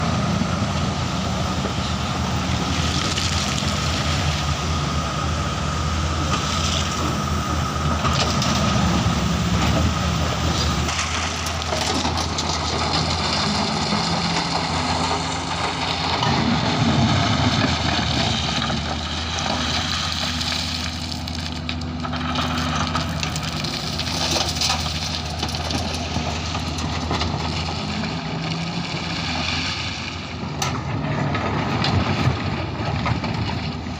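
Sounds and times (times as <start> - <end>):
gravel and stone crunching: 0.0 - 5.3, 6.0 - 33.9
diesel excavator engine running: 0.0 - 33.9.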